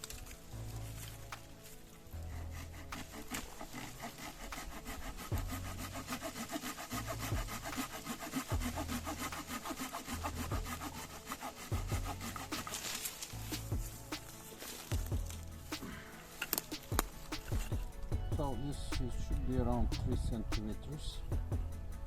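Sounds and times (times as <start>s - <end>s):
hand saw cutting branch: 0.0s - 17.8s.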